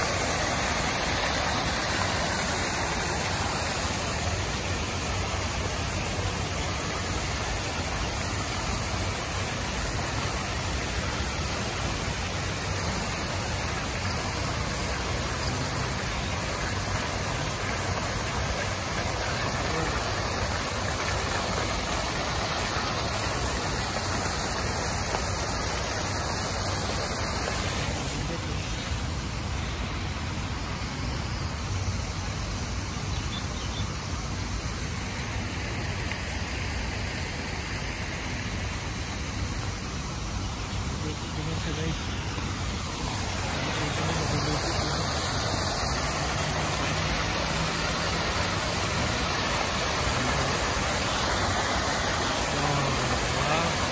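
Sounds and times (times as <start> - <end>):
fountain jets splashing: 0.0 - 53.9.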